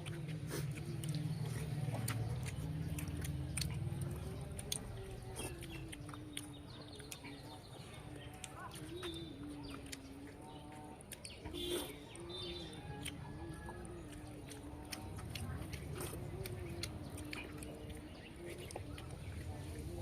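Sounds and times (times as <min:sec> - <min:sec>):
clicks and taps of eating: 0:00.0 - 0:19.9
birds chirping: 0:00.0 - 0:20.0.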